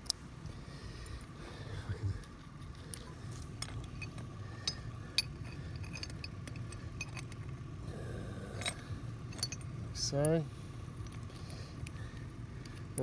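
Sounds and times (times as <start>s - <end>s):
steady low rumble: 0.0s - 13.0s
metal shackles clinking: 1.9s - 7.8s, 8.4s - 13.0s.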